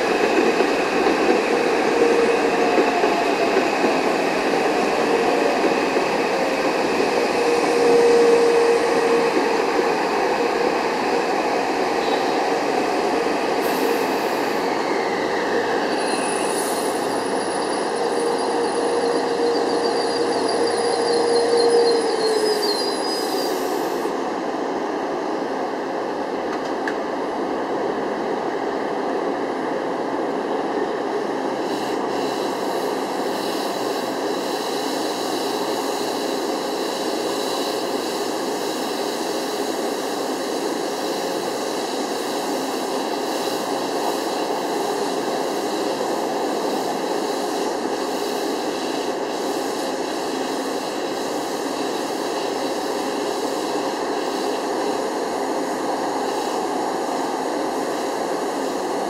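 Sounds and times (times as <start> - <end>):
train equipment whirring hum: 0.0 - 59.0.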